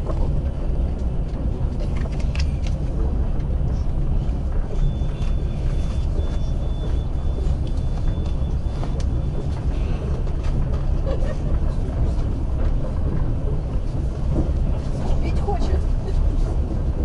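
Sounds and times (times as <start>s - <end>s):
train car rumbling inside: 0.0s - 17.0s.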